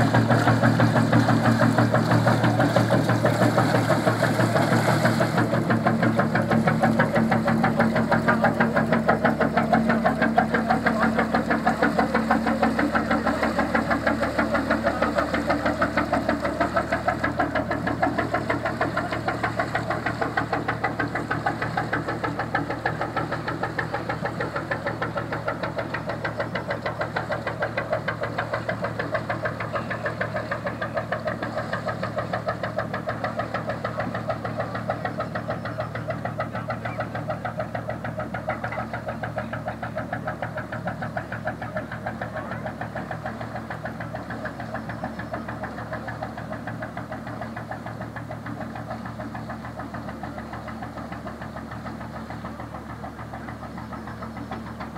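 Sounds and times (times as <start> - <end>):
boat engine knocking beat: 0.0 - 54.9.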